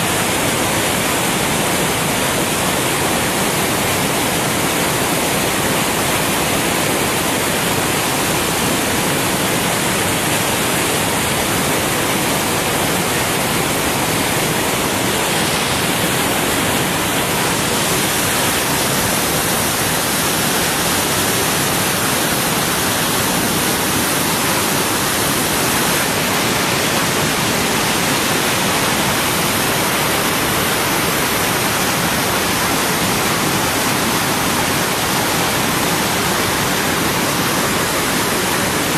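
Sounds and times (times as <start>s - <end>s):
river rapids rushing over rocks: 0.0s - 38.9s.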